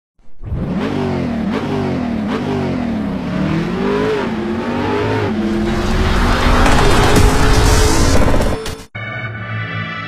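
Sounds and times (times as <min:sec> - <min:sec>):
car engine revving: 0:00.4 - 0:08.7.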